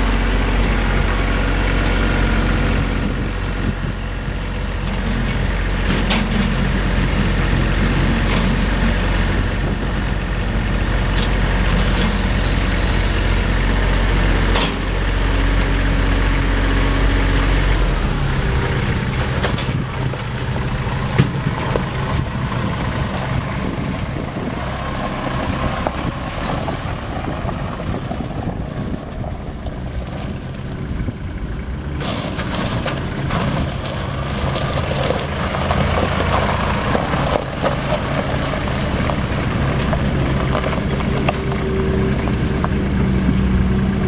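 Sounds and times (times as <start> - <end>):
tractor diesel engine running: 0.0 - 44.0
tyres crunching over gravel: 0.3 - 44.0.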